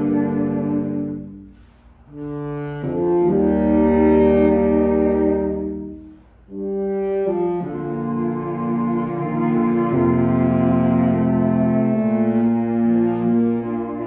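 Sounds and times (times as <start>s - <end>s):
saxophones playing sustained chords: 0.0s - 14.0s.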